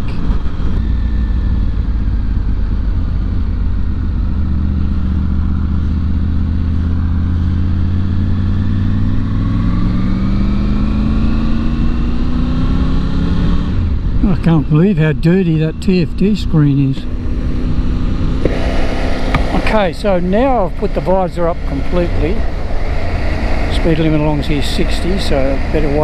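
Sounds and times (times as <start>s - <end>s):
motorcycle engine: 0.6s - 12.8s, 17.1s - 26.0s.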